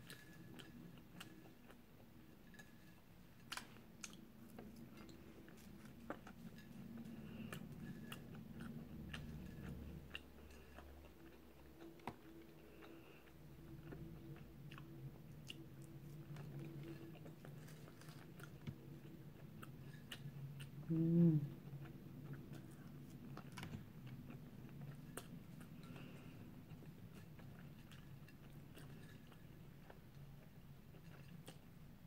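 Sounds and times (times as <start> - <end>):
faint chewing: 0.0 - 32.0.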